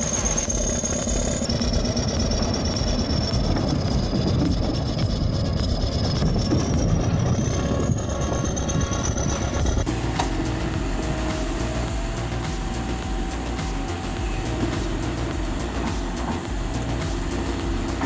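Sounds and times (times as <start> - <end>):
diesel engine under load: 0.0 - 18.0
thin high whine: 0.0 - 18.0.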